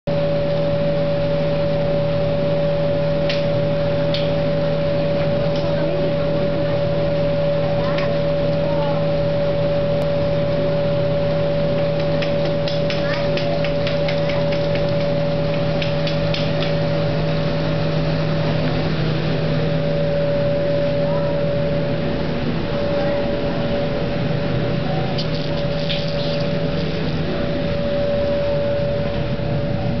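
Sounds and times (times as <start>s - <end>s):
machine hum with whining tone: 0.1s - 30.0s.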